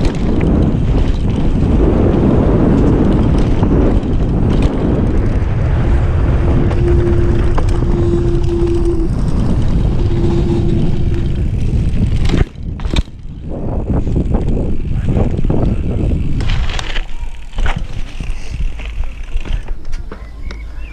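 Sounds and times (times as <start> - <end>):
bike knocking and rattling: 0.0 - 20.9
bike tyres rolling on dirt: 0.0 - 20.9
bike tyres rolling on paving: 0.0 - 20.9
wind on microphone: 0.0 - 20.9.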